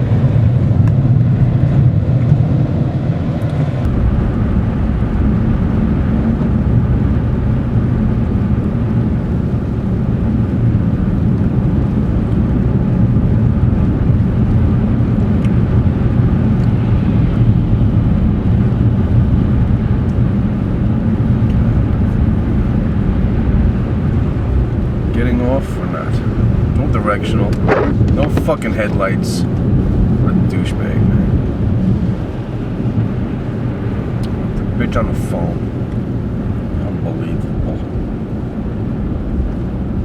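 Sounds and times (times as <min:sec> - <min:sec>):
car engine and tyre noise: 0:00.0 - 0:40.0.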